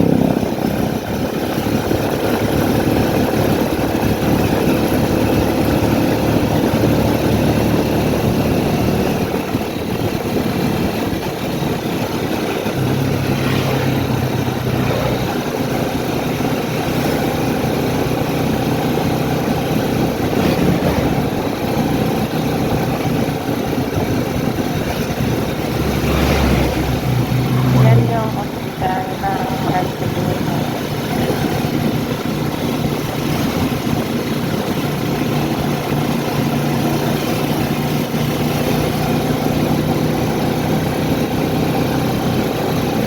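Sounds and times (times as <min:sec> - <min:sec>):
road noise: 0:00.0 - 0:43.0
vehicle engine running: 0:00.0 - 0:43.0.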